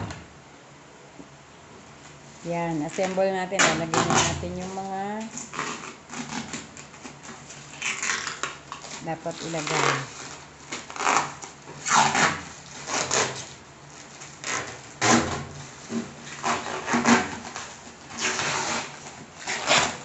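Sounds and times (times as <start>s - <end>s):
plastic film crinkling: 2.4s - 20.0s.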